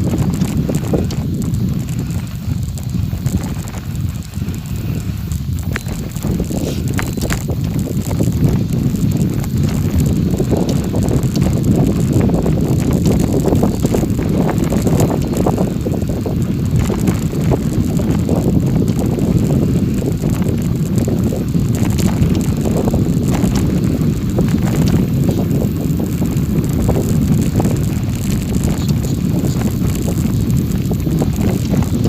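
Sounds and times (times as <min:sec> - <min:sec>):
low rumble of vehicle travel: 0:00.0 - 0:32.0
small clicks and rattles: 0:00.0 - 0:32.0
wind buffeting microphone: 0:00.0 - 0:32.0.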